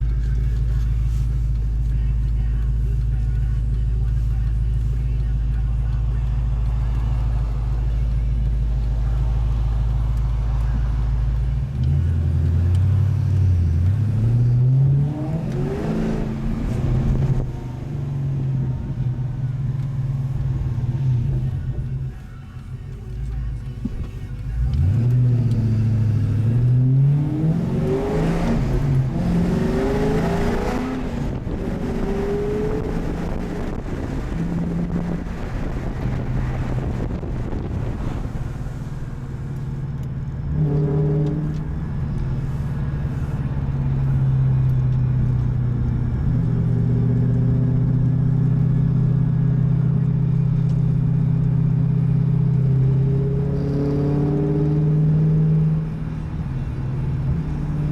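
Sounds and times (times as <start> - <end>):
car engine from inside cabin: 0.0 - 57.9.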